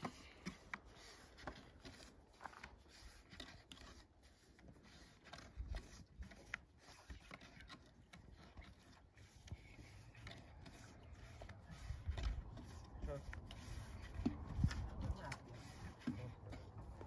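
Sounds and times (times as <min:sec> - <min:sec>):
rolling pin rubbing on dough: 0:00.0 - 0:17.0.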